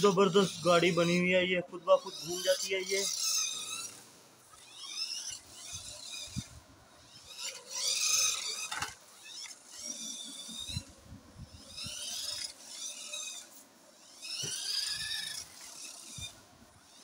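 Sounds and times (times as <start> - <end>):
toy truck electric motor whining: 0.0 - 17.0.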